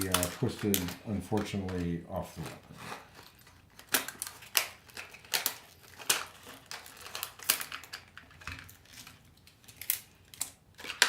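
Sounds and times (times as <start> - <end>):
packaging rustling: 0.0 - 11.0
plastic clicks and clatters: 0.0 - 11.0.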